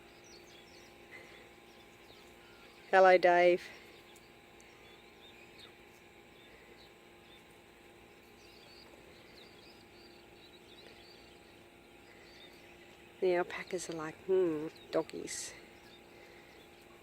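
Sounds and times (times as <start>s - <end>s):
birds chirping: 0.0s - 17.0s
faint steady hum: 0.0s - 17.0s.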